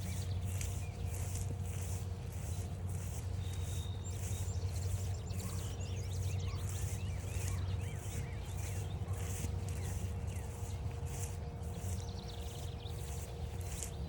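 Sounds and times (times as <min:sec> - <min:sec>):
footsteps on a trail: 0:00.0 - 0:14.0
songbird whistling and chirping: 0:00.0 - 0:14.0
steady low rumble: 0:00.0 - 0:14.0.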